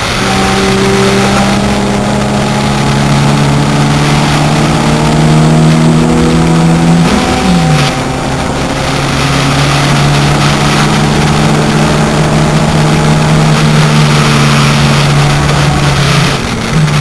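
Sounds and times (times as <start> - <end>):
race car engine pulling hard: 0.0 - 17.0
wind and road noise: 0.0 - 17.0.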